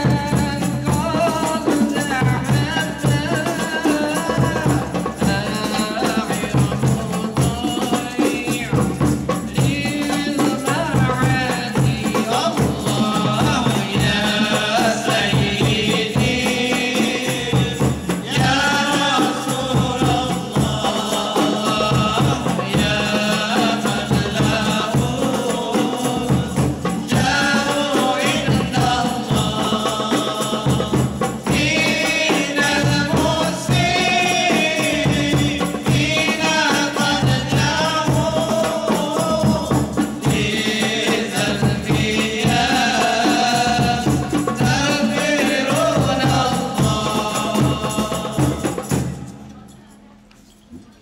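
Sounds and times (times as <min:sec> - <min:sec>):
man singing into a microphone: 0:00.0 - 0:49.2
hand drums beating: 0:00.0 - 0:49.5.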